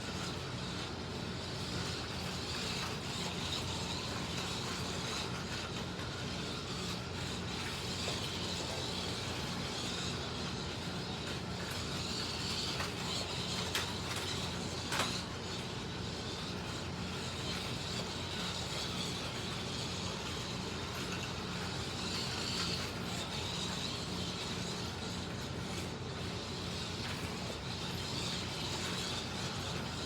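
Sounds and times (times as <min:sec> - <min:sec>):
slot car motors whining: 0:00.0 - 0:30.0.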